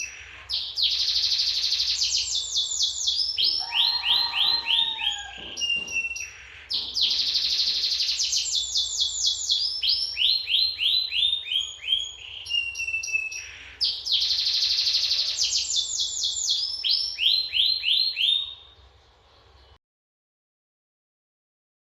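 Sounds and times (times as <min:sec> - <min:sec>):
canary singing: 0:00.0 - 0:19.8.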